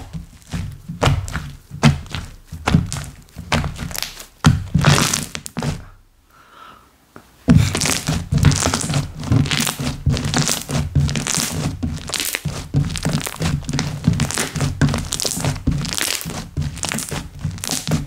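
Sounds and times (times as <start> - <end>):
slime squishing and popping: 0.0 - 5.8, 7.5 - 18.0.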